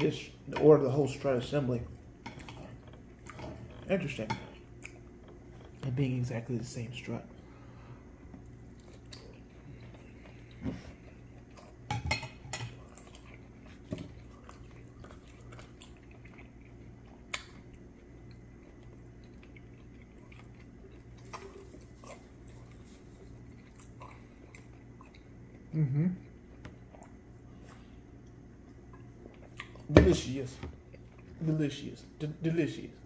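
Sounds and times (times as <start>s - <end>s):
low steady hum: 0.0s - 33.0s
person chewing: 1.9s - 5.8s, 8.0s - 30.0s, 30.8s - 31.5s.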